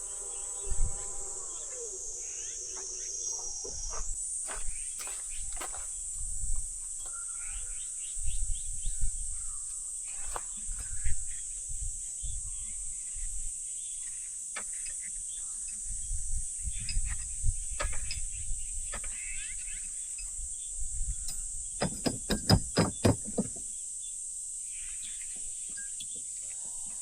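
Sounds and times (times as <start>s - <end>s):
crickets chorus: 0.0s - 27.0s.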